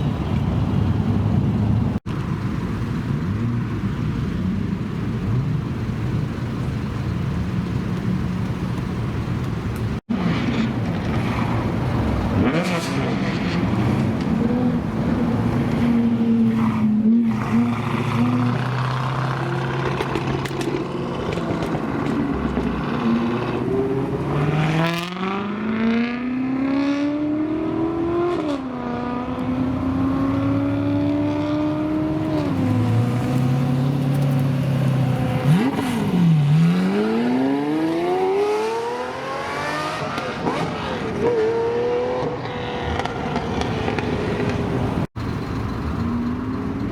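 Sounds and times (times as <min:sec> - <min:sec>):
car engine idling and accelerating: 0:00.0 - 0:46.9.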